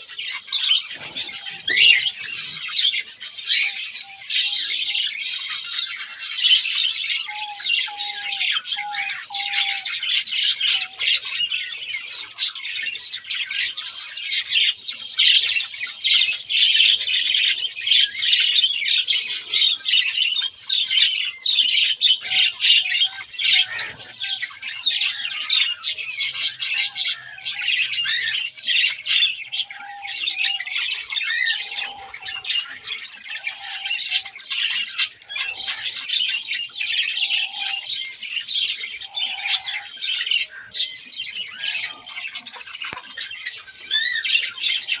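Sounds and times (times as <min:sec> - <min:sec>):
birds chirping and squawking: 0:00.0 - 0:45.0.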